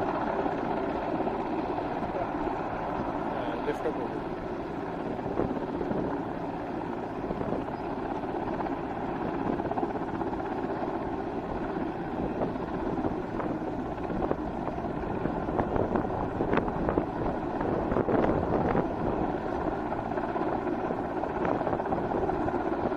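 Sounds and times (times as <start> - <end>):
helicopter rotor and turbines: 0.0 - 22.9.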